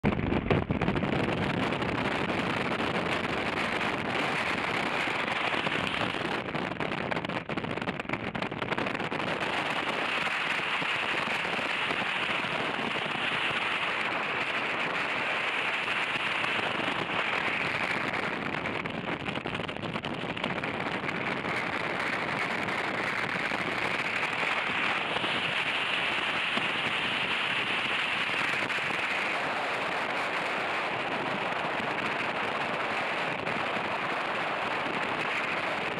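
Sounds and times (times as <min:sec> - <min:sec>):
tyre and road noise: 0:00.0 - 0:35.9
wind rushing over microphone: 0:00.0 - 0:35.9.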